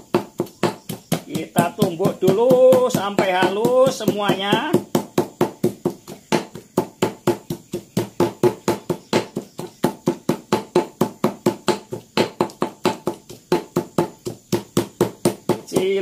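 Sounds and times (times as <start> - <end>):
pestle pounding in a mortar: 0.0 - 16.0.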